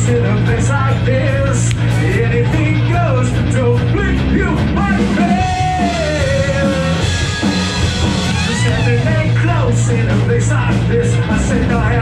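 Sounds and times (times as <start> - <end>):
man singing: 0.0 - 7.5, 8.2 - 12.0
bass guitar: 0.0 - 12.0
drums with hi-hat strokes: 0.0 - 12.0
electric guitar: 0.0 - 12.0.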